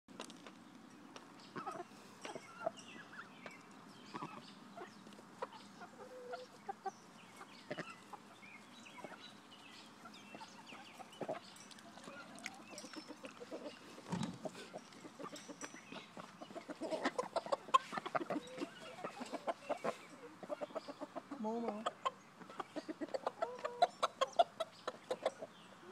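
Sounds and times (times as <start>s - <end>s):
chickens clucking: 1.2s - 25.9s.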